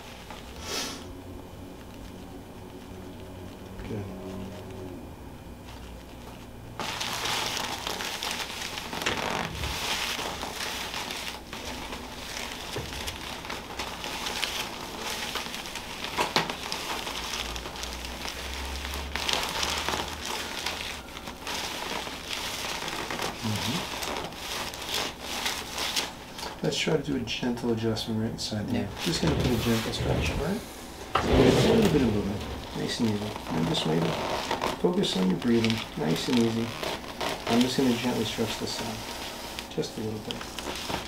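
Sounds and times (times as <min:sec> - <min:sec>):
rustling and crinkling handling noise: 0:00.0 - 0:00.6, 0:01.6 - 0:41.0.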